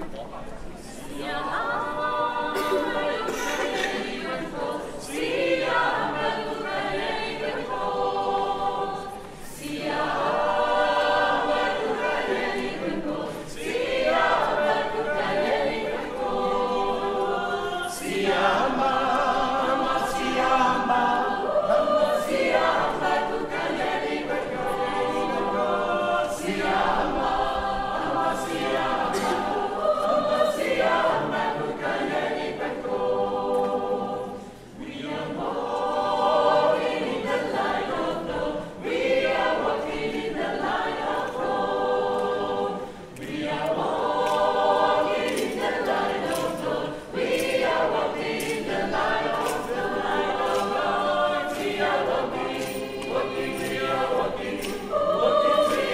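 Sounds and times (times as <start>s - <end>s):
mixed choir singing a cappella: 0.7s - 55.9s.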